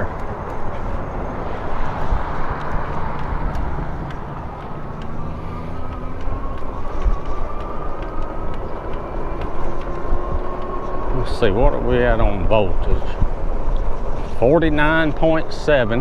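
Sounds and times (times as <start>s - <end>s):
faint whine rising in pitch: 0.0s - 16.0s
wind rushing over microphone: 0.0s - 16.0s.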